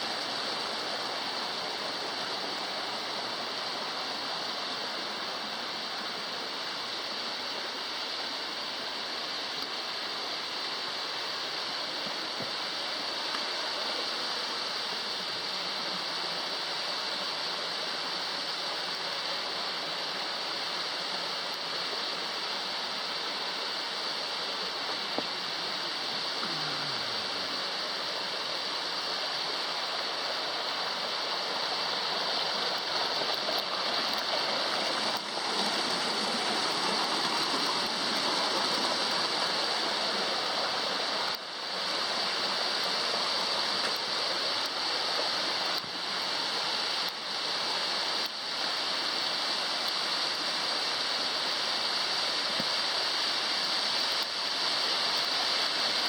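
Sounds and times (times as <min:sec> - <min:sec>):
mountain water rushing: 0:00.0 - 0:56.0.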